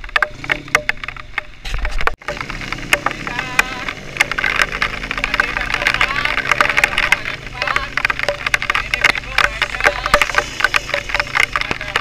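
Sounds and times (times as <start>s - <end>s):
vehicle rattling over rough track: 0.0s - 12.0s.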